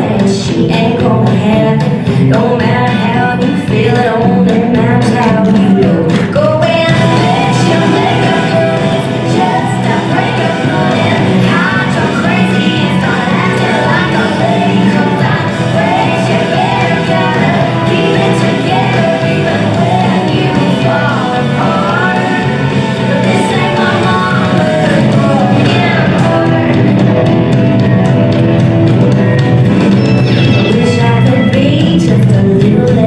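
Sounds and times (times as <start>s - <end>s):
country-rock song with woman singing: 0.0s - 28.2s, 30.2s - 33.0s.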